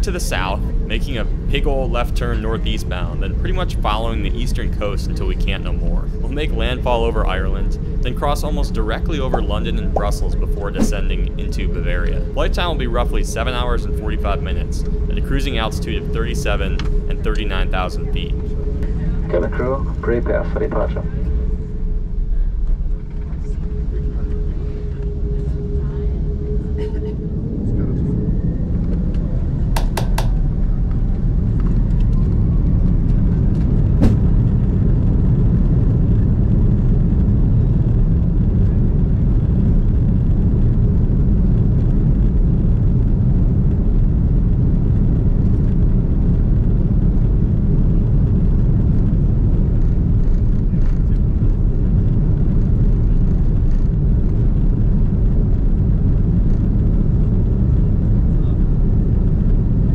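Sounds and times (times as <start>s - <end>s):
engines and wheels rumbling: 0.0s - 59.9s
jet engines whining: 0.0s - 59.9s.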